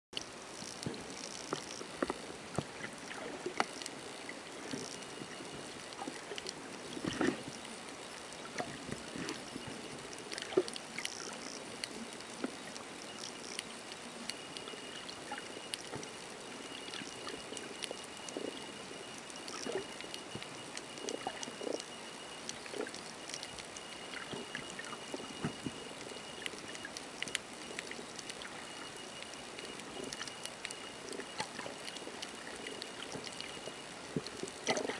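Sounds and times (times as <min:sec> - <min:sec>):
faint steady high tone: 0:00.2 - 0:34.9
sharp clicks and crackles: 0:00.2 - 0:34.9.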